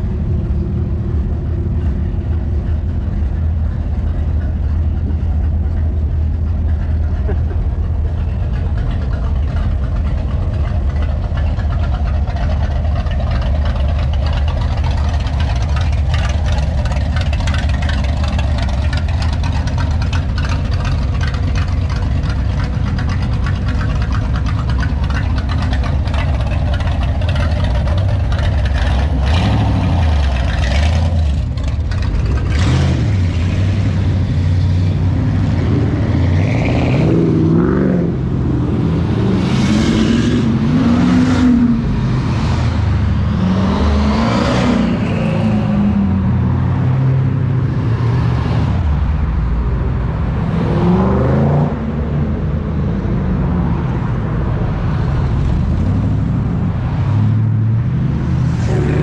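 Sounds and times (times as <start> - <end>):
car engine rumbling: 0.0 - 59.0.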